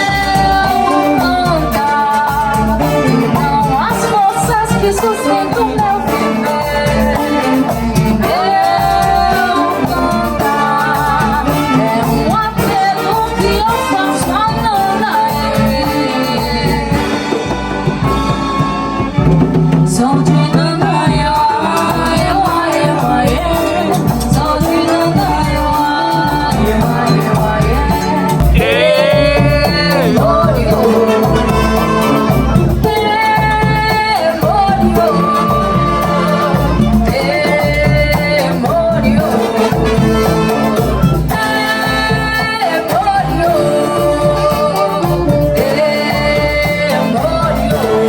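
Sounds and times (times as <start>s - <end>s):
sliding melody line: 0.0s - 43.0s
live band playing: 0.0s - 48.0s.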